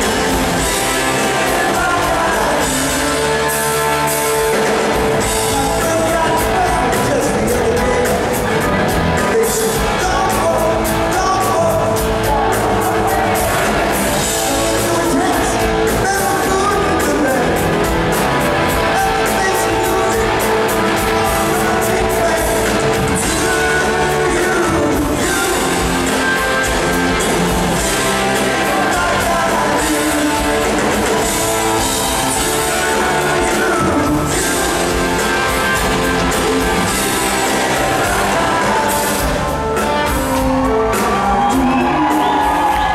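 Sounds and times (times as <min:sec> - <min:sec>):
drums: 0:00.0 - 0:42.9
electric guitars: 0:00.0 - 0:42.9
person singing lead vocal: 0:00.0 - 0:42.9.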